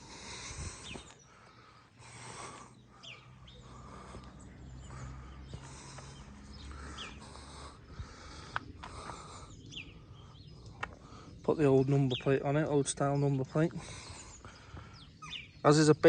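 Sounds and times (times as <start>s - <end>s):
faint birdsong chirps: 0.0s - 16.0s
low outdoor background hum: 0.0s - 16.0s.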